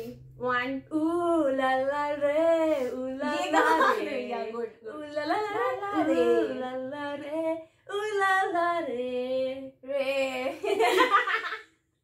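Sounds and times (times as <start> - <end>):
woman singing unaccompanied: 0.4 - 10.6.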